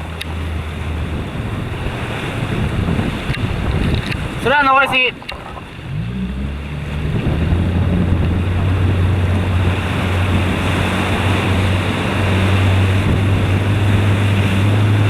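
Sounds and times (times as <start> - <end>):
rushing water and waves: 0.0 - 15.0
wind on microphone: 0.0 - 15.0.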